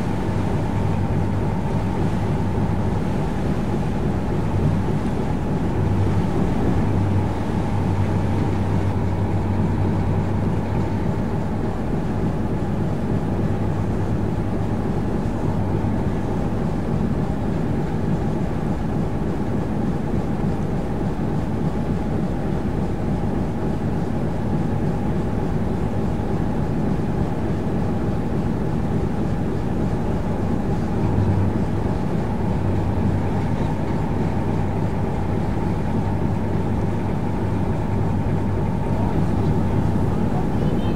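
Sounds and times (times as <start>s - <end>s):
boat diesel engine droning: 0.0s - 40.9s.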